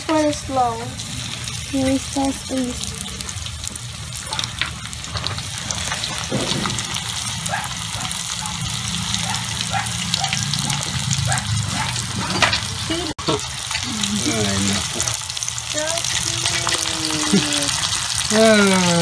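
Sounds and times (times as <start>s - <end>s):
chicken deep-frying in oil: 0.0s - 19.0s.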